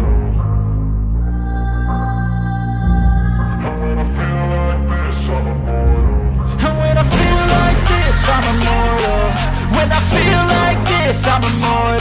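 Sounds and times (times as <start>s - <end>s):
steady bass: 0.0s - 12.0s
sustained chords: 0.0s - 12.0s.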